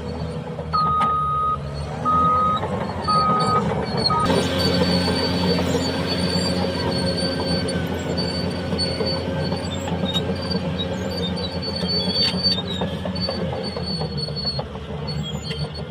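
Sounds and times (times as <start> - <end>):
diesel engine droning: 0.0 - 15.9
steel tracks clanking and squealing: 0.0 - 15.9.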